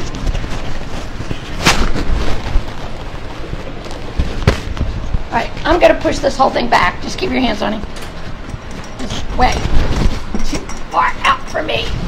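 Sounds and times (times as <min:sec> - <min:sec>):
low rumbling handling noise: 0:00.0 - 0:12.0.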